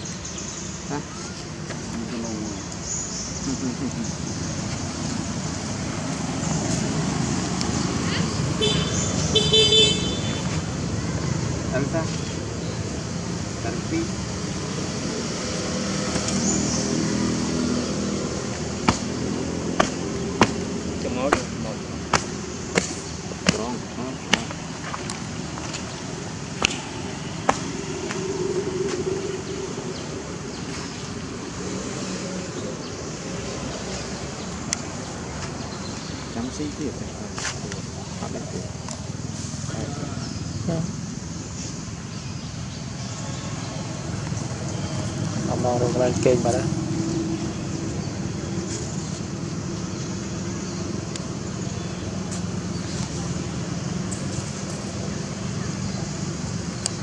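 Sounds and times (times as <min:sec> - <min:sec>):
outdoor background rush: 0:00.0 - 0:57.0.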